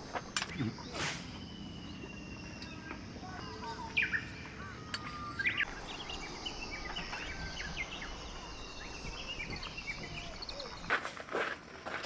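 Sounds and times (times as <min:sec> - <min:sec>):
birds chirping and whistling: 0:00.4 - 0:11.1.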